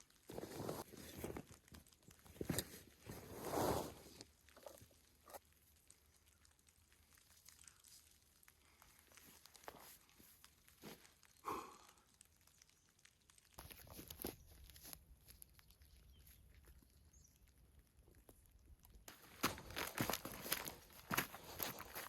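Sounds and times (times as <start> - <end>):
faint rustles and clicks: 0.0 - 11.4, 12.0 - 22.0.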